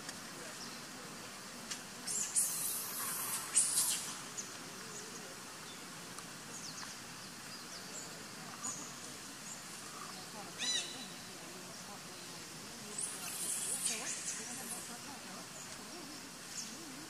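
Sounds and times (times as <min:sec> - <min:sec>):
forest background: 0:00.0 - 0:17.0
leaves and branches rustling: 0:00.0 - 0:17.0
small birds chirping: 0:02.0 - 0:17.0.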